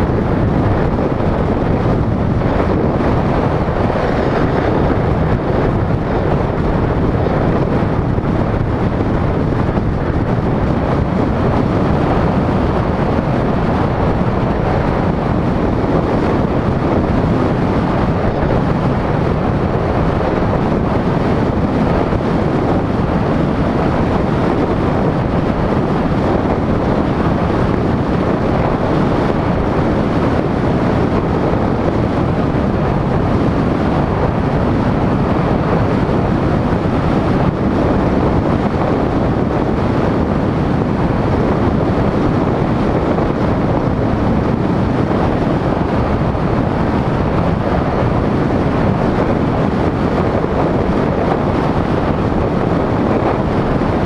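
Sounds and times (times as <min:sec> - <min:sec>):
road and tyre noise: 0:00.0 - 0:54.0
wind buffeting microphone: 0:00.0 - 0:54.0.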